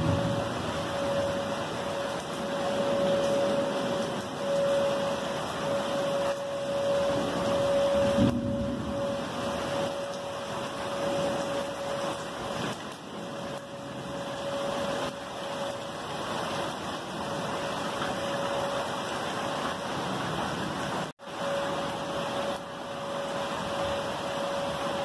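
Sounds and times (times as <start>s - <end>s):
distant warning siren: 0.0s - 25.0s
heavy rain: 0.0s - 25.0s
wind: 0.0s - 25.0s.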